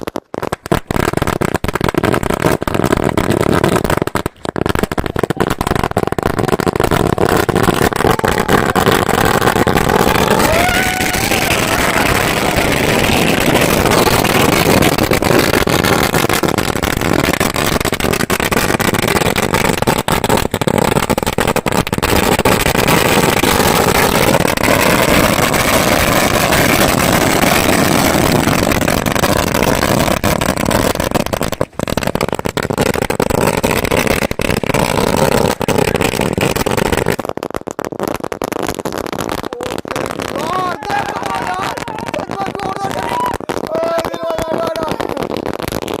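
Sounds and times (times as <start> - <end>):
string of firecrackers crackling: 0.0 - 46.0.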